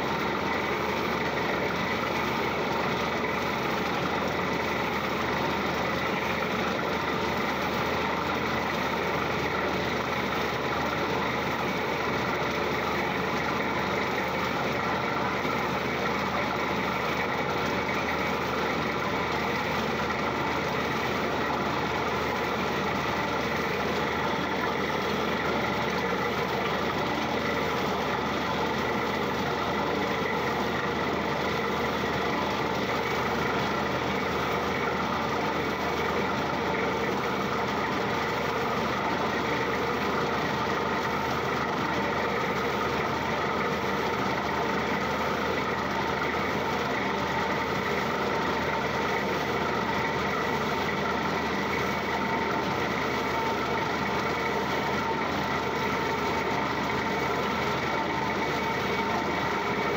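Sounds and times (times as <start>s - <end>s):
drilling rig running: 0.0s - 59.9s.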